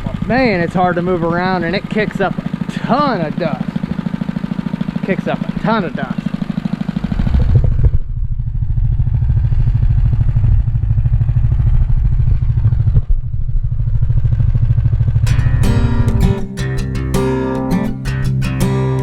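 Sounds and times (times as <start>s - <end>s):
small gas engine running: 0.0s - 13.0s, 14.1s - 19.0s.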